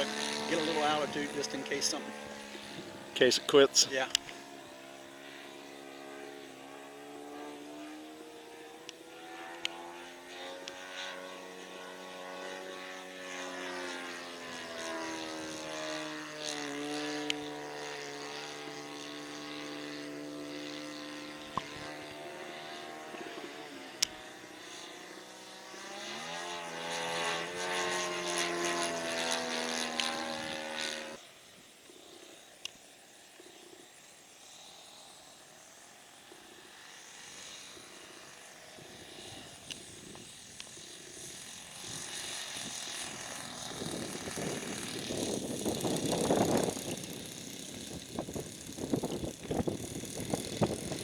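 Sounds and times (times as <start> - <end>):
model airplane motor and propeller: 0.0 - 51.0.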